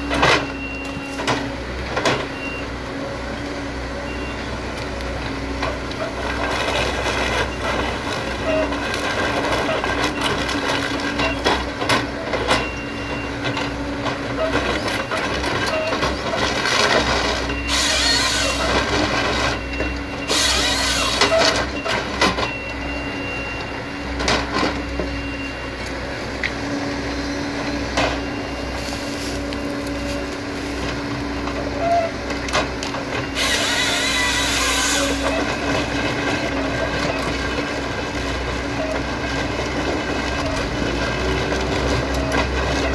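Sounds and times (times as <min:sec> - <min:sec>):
excavator running under hydraulic load: 0:00.0 - 0:42.9.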